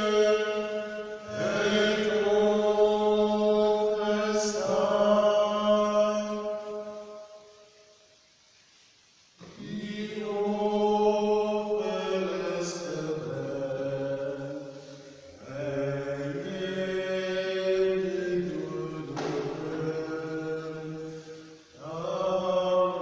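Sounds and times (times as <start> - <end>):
slow hymn singing: 0.0 - 23.0.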